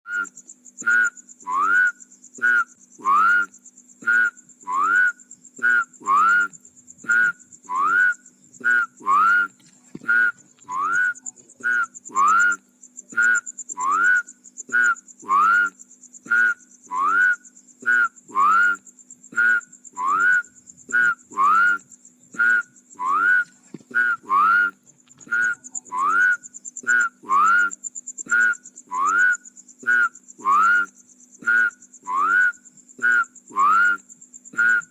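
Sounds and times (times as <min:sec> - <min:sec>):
frogs calling: 0:00.1 - 0:34.9.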